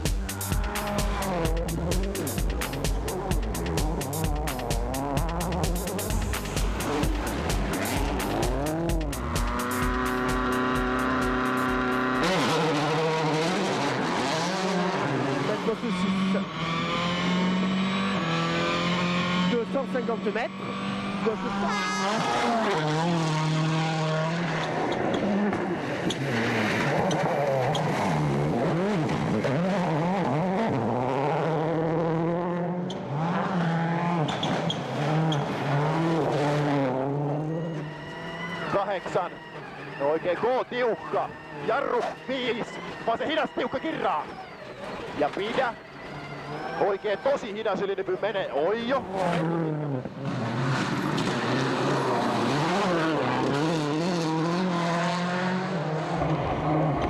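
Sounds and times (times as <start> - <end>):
rally car engine revving hard: 0.0 - 57.0.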